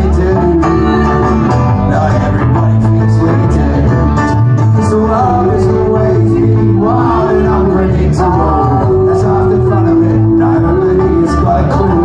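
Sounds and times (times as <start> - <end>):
folk band playing: 0.0 - 12.0
guitars strumming and picking: 0.0 - 12.0.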